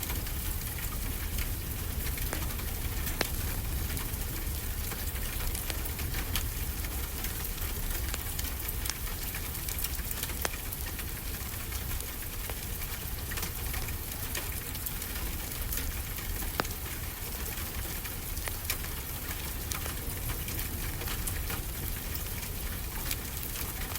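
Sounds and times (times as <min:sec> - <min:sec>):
steady rain: 0:00.0 - 0:23.9
wood fire crackling and popping: 0:00.0 - 0:23.9.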